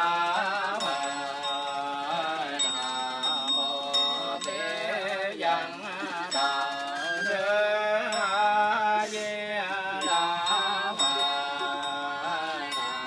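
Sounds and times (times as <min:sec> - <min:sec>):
chant in long held notes: 0:00.0 - 0:13.0.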